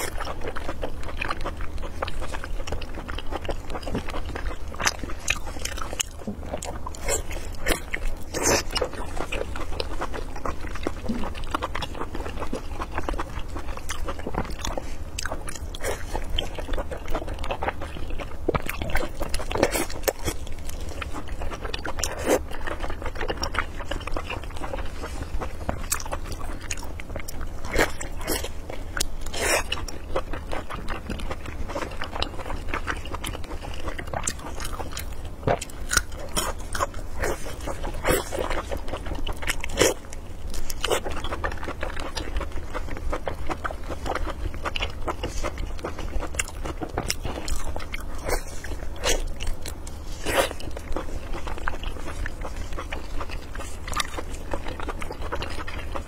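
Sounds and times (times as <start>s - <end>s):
person chewing and smacking: 0.0s - 56.0s
steady low hum: 0.0s - 56.0s.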